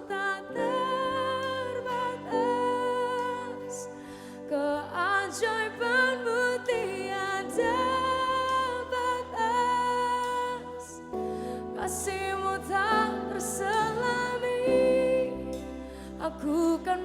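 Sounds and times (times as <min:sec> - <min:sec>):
slow worship band music: 0:00.0 - 0:17.0.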